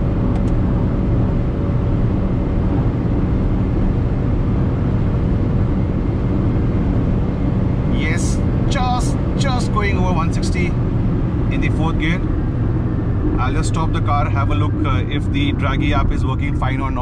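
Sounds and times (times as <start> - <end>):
car engine droning: 0.0 - 17.0
road and wind noise: 0.0 - 17.0.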